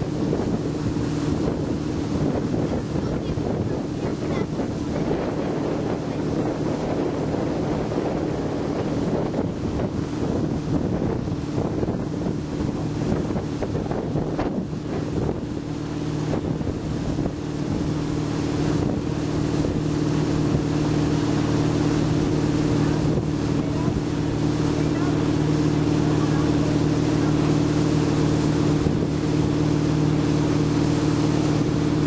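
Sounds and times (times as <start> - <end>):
boat engine running: 0.0 - 32.0
wake churning: 0.0 - 32.0
wind buffeting microphone: 0.0 - 32.0.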